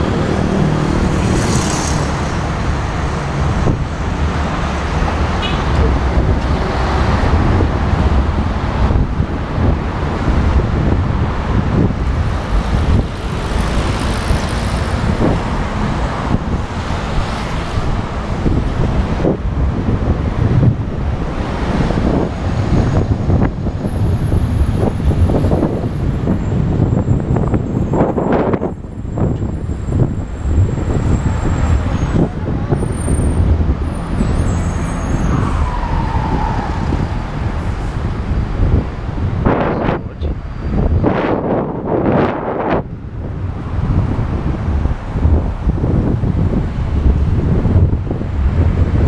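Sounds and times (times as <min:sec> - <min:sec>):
road traffic noise: 0:00.0 - 0:49.0
wind on microphone: 0:00.0 - 0:49.0.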